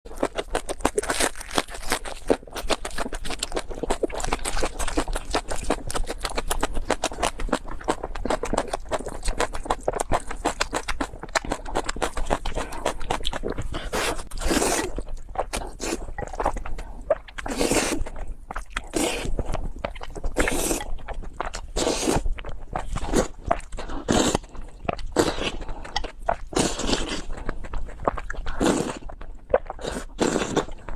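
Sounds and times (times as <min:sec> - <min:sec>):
person eating and chewing: 0:00.1 - 0:30.9.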